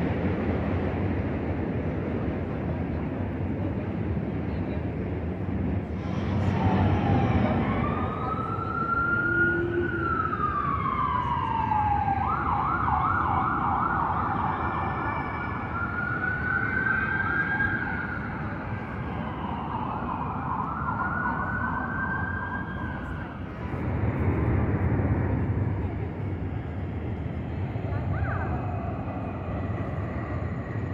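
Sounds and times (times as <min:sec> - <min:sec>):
low rumble of city noise: 0:00.0 - 0:30.9
emergency vehicle siren: 0:05.7 - 0:30.9.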